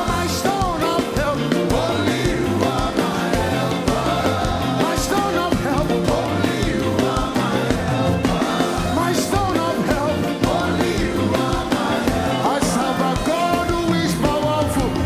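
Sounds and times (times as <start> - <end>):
drum beat and bass: 0.0 - 15.0
live band playing dance song: 0.0 - 15.0
people singing: 0.0 - 15.0.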